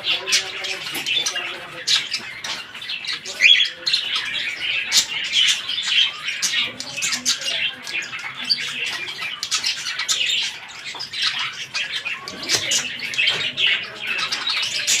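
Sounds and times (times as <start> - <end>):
cockatiels chirping: 0.0 - 15.0.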